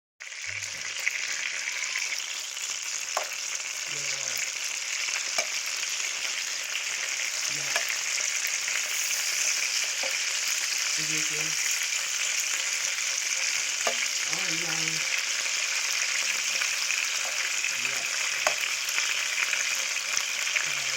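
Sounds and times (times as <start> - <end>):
chicken sizzling in oil: 0.2 - 20.9.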